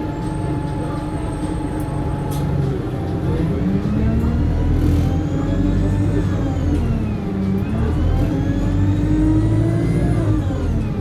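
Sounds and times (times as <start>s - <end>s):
bus engine revving: 1.9s - 11.0s.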